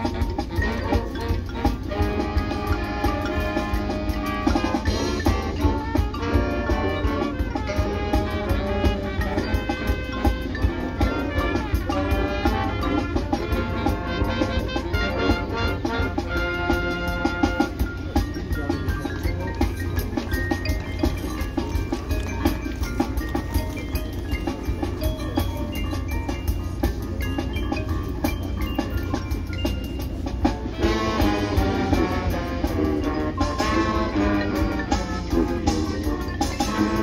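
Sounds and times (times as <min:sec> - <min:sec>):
marching band playing: 0:00.0 - 0:37.0.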